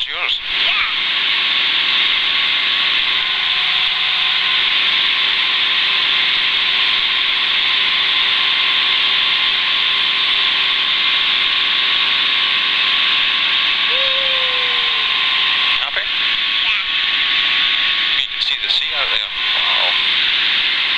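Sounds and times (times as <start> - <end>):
helicopter in flight: 0.0 - 20.9.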